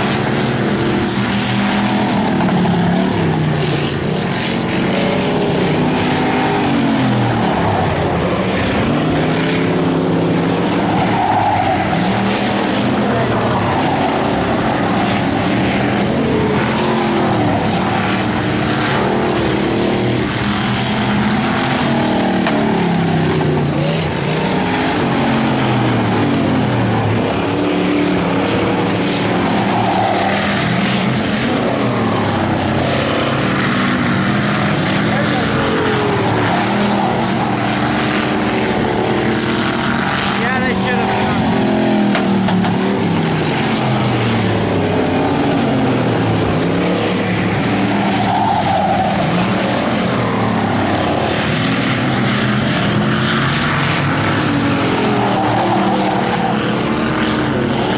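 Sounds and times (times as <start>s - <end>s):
race car engines revving: 0.0s - 57.9s.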